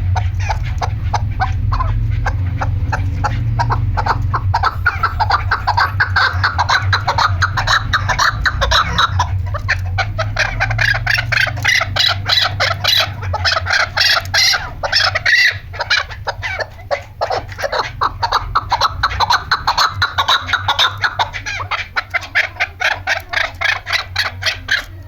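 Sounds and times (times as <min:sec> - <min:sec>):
low steady hum: 0:00.0 - 0:25.0
partridge calling: 0:00.0 - 0:25.0.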